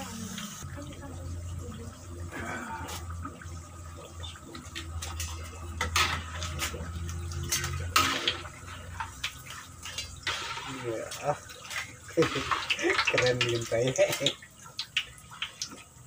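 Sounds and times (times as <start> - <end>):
oil sizzling in a wok: 0.0 - 3.9, 4.6 - 16.0.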